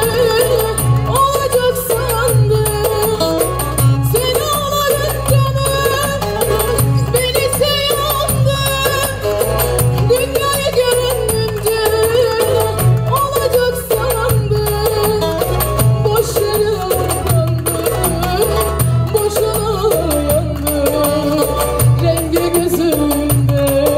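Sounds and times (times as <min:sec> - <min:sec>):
woman singing: 0:00.0 - 0:23.9.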